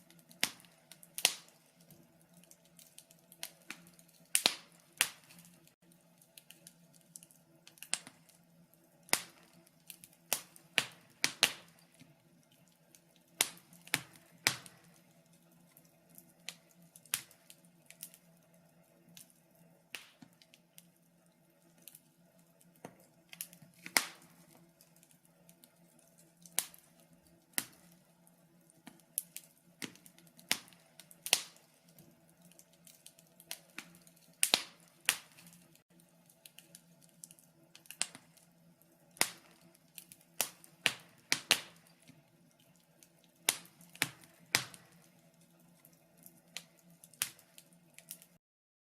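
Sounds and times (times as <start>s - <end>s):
burning logs popping: 0.0s - 48.4s
faint steady hum: 0.0s - 48.4s
wood fire crackling: 0.0s - 48.4s.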